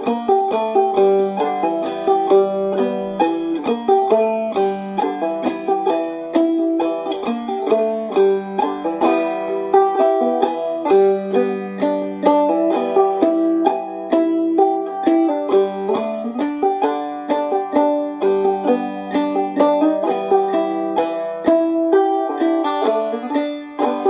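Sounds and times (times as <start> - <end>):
banjo played clawhammer style: 0.0 - 24.0.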